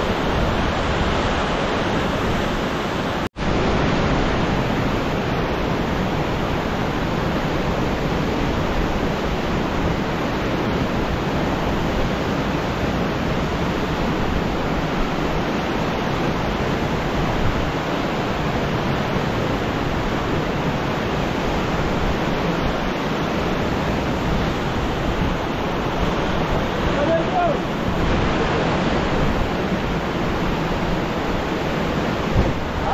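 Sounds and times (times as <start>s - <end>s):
river rushing through rapids: 0.0s - 32.9s.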